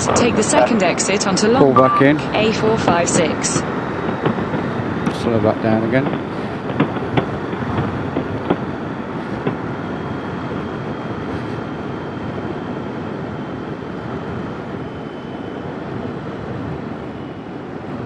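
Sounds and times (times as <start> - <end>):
faint high whine: 0.0 - 6.2, 8.7 - 18.0
wind and road noise: 0.0 - 14.9.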